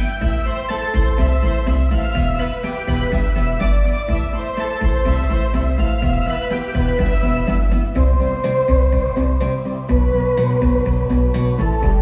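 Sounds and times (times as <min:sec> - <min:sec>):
pulsing bass line: 0:00.0 - 0:12.0
synthesizer chords: 0:00.0 - 0:12.0.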